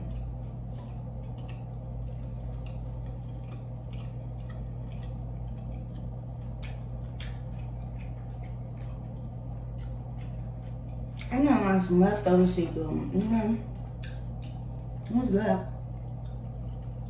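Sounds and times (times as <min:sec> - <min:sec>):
steady low hum: 0:00.0 - 0:17.0
wet chewing: 0:00.0 - 0:17.0.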